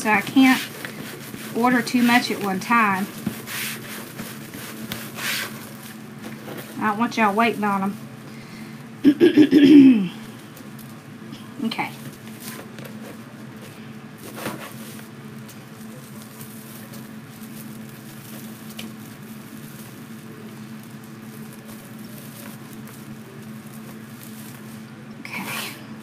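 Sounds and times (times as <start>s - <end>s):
foil mesh rustling and crinkling: 0.0s - 8.2s, 11.8s - 26.0s
steady low hum: 0.0s - 26.0s.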